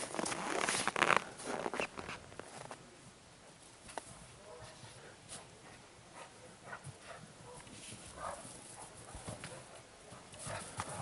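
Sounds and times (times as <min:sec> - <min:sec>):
paws crunching in snow: 0:00.0 - 0:02.8, 0:04.1 - 0:11.0.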